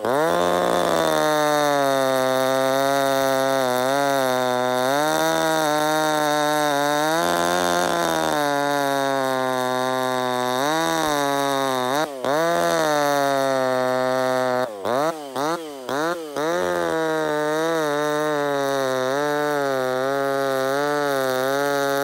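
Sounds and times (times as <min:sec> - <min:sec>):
chainsaw cutting a log: 0:00.0 - 0:22.0.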